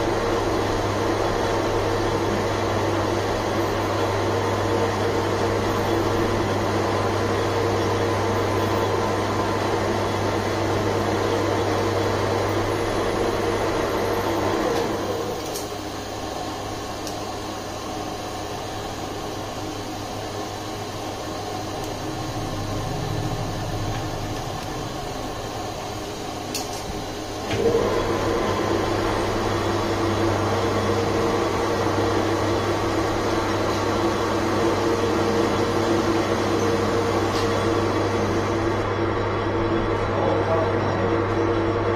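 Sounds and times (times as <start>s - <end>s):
faint machine whine: 0.0s - 41.9s.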